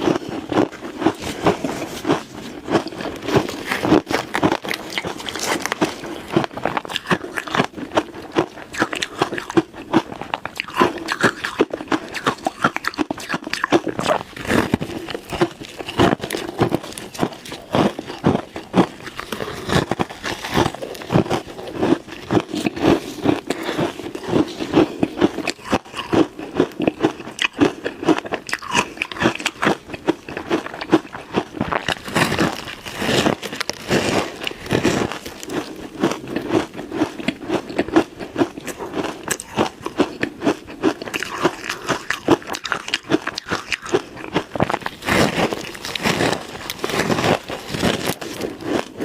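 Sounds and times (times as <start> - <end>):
ice crunching being chewed: 0.0 - 49.0.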